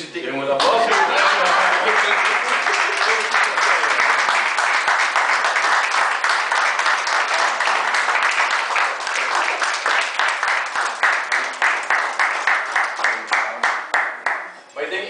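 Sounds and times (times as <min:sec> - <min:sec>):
audience applauding: 0:00.6 - 0:14.6.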